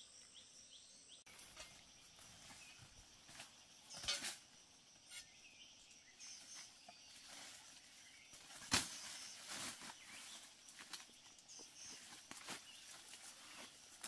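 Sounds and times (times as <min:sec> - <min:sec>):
faint insect drone: 0:00.0 - 0:14.0.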